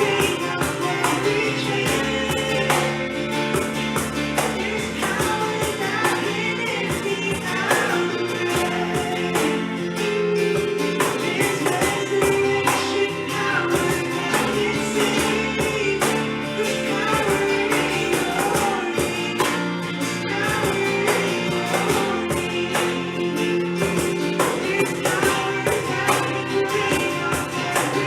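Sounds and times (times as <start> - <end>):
person singing: 0.0 - 28.0
worship band music: 0.0 - 28.0.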